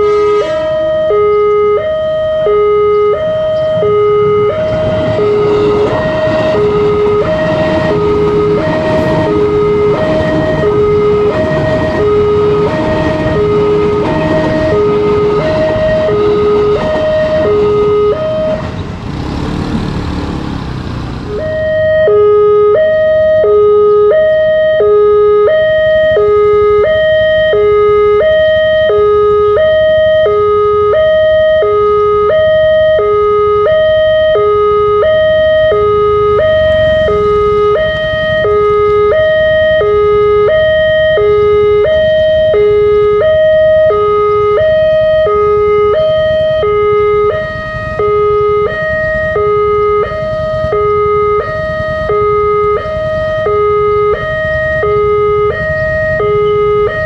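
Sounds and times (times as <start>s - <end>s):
two-tone level crossing alarm: 0.0s - 18.8s, 21.3s - 57.0s
low traffic rumble: 0.0s - 57.0s.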